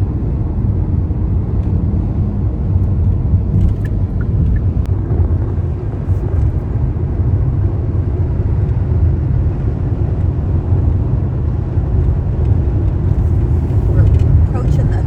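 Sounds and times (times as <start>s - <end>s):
car interior road rumble: 0.1s - 15.0s.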